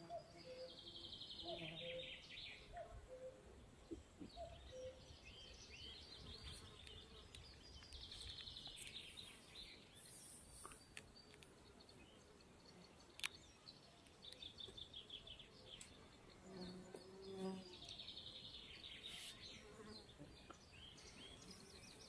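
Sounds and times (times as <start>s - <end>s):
faint bird trills and chirps: 0.0s - 22.0s.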